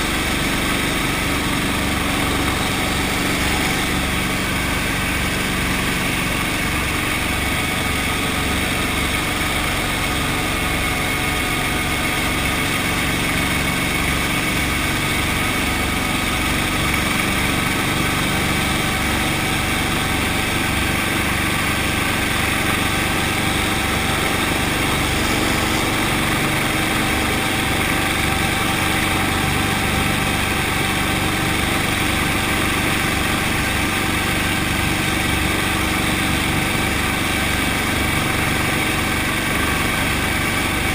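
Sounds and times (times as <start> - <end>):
helicopter engine and rotors running: 0.0 - 40.9.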